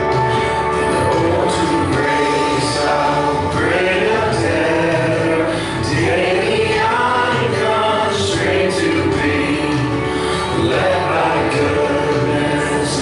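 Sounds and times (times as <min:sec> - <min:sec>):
group singing in church: 0:00.0 - 0:13.0
instrumental accompaniment: 0:00.0 - 0:13.0.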